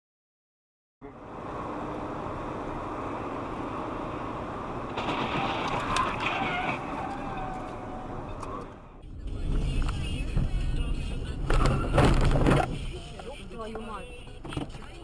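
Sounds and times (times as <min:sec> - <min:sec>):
car engine and tyre noise: 0:01.0 - 0:15.0.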